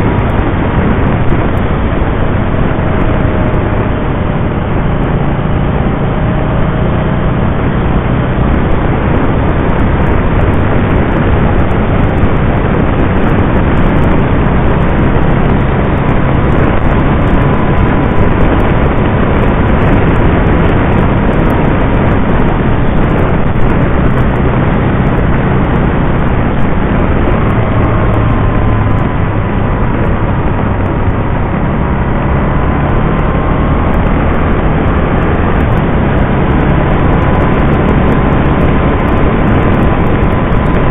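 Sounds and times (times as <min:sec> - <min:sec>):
motorcycle engine drone: 0:00.0 - 0:40.9
wind rushing on microphone: 0:00.0 - 0:40.9.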